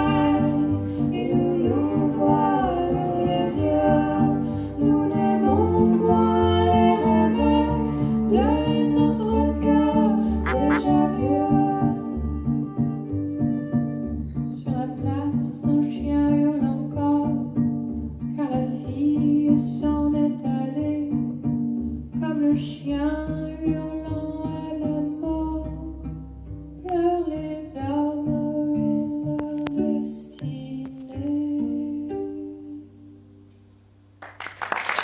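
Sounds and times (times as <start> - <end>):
woman singing: 0.0 - 12.4, 14.5 - 17.6, 18.3 - 21.4, 22.2 - 25.9, 26.8 - 33.1
cello bass notes: 0.0 - 34.2.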